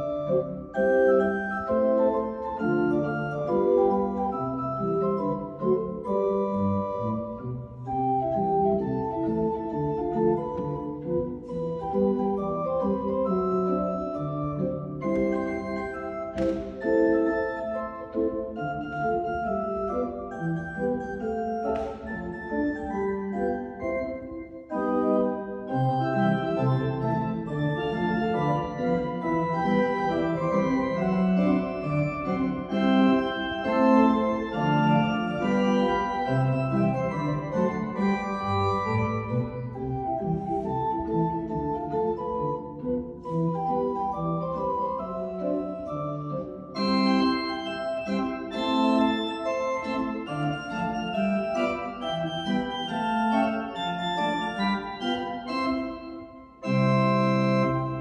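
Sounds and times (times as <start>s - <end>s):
church pipe organ playing: 0.0s - 58.0s.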